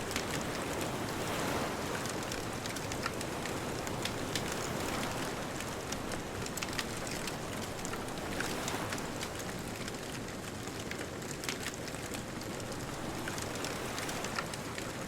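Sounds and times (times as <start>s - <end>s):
distant ocean surf: 0.0s - 9.9s, 12.6s - 14.9s
wood fire crackling and popping: 0.0s - 15.0s.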